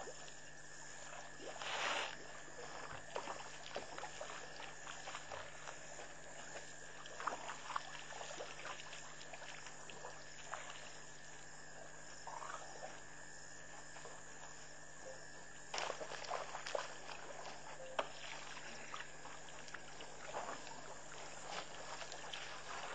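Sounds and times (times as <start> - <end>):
water splashing and trickling: 0.0 - 13.1, 13.7 - 22.9.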